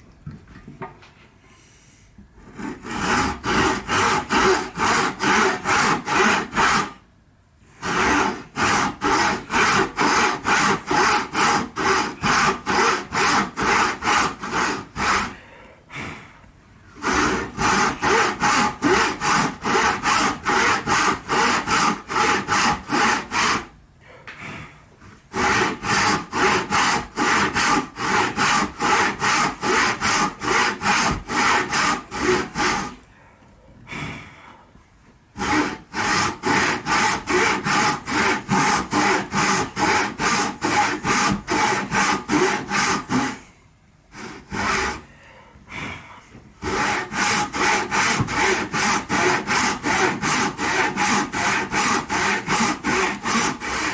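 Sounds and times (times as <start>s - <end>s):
hand saw cutting wood: 2.4s - 7.0s, 7.7s - 15.4s, 17.0s - 23.7s, 25.3s - 33.0s, 35.4s - 45.1s, 46.6s - 53.9s.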